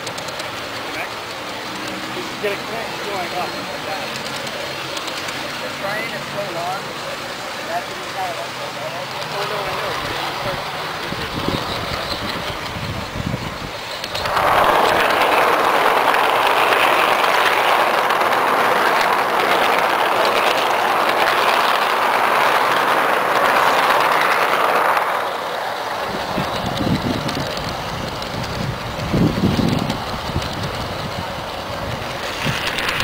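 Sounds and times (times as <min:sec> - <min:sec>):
model train running on track: 0:00.0 - 0:33.0
wheels rattling on bridge rails: 0:00.0 - 0:33.0.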